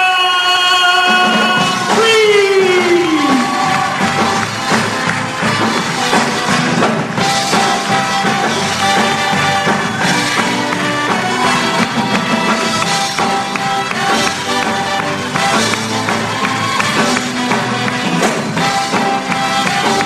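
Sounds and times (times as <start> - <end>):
band playing instrumental music: 0.0 - 20.0
drums beating: 0.6 - 20.0.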